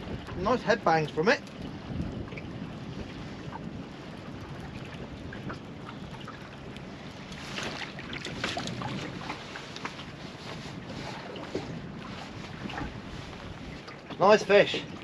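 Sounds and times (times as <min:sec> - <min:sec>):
water against boat hull: 0:00.0 - 0:15.0
wind on microphone: 0:00.0 - 0:15.0.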